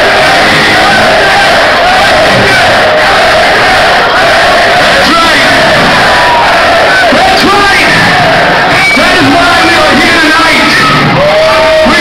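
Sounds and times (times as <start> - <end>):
crowd cheering and yelling: 0.0 - 12.0.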